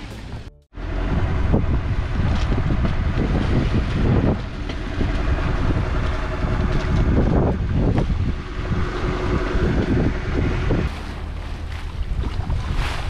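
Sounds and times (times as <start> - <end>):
rush of sea water: 0.0 - 13.0
wind buffeting microphone: 0.7 - 13.0.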